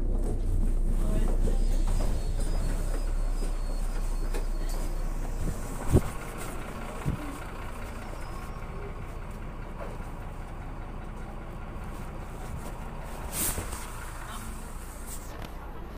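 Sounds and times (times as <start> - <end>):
bus engine idling: 0.0 - 15.9.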